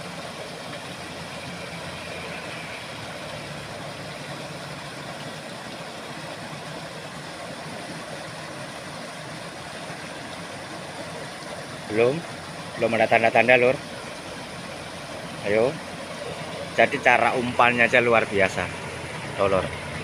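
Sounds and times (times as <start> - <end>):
water rushing over weir: 0.0 - 20.0.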